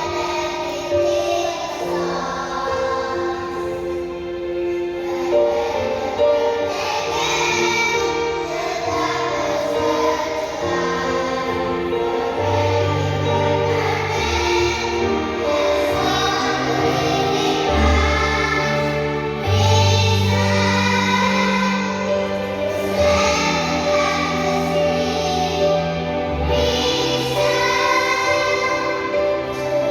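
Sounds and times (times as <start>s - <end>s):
choir singing: 0.0s - 29.9s.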